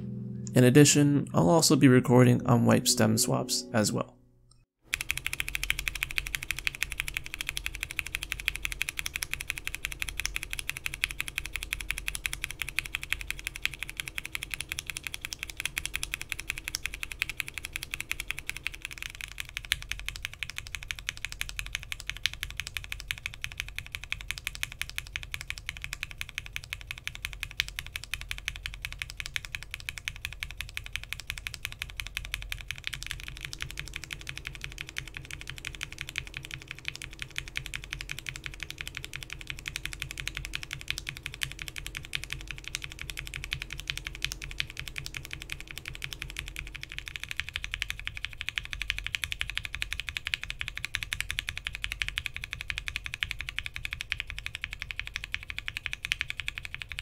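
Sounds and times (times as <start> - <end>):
fast mechanical keyboard typing: 4.8 - 57.0.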